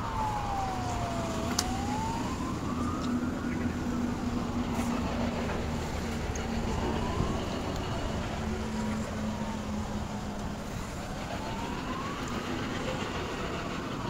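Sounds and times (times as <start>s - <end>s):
distant siren wailing: 0.0s - 14.0s
traffic hum: 0.0s - 14.0s.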